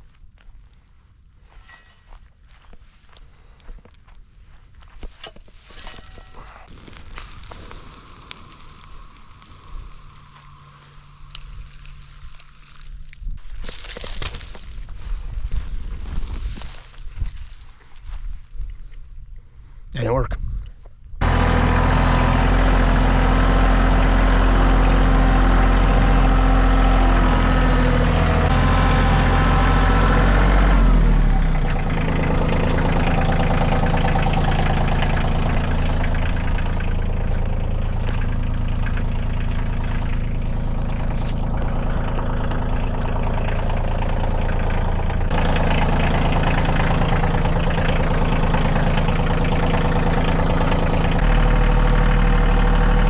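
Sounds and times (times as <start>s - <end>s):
tractor engine running: 1.4s - 19.1s, 21.2s - 53.0s.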